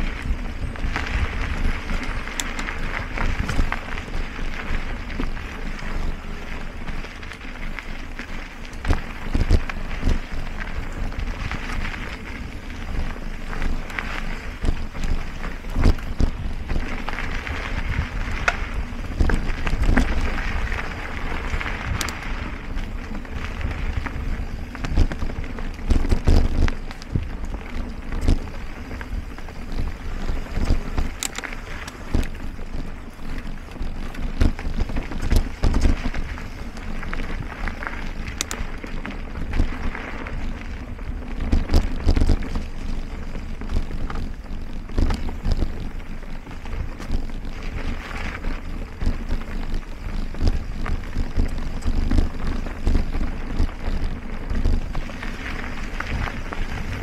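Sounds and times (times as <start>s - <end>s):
bike tyres rolling on dirt: 0.0s - 57.0s
wind on microphone: 0.0s - 57.0s.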